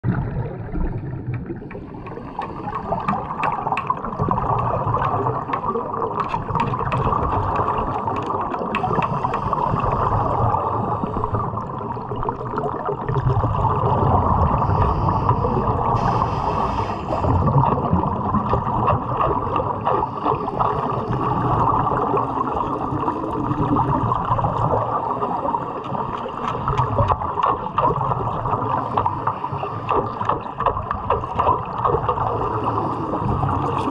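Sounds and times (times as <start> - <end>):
underwater breathing bubbles: 0.0 - 33.9.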